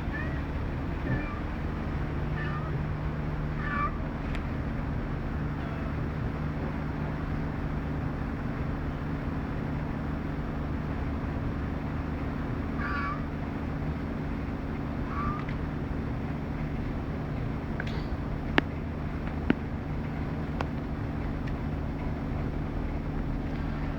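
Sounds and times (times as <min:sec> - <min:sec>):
steady engine hum: 0:00.0 - 0:23.9.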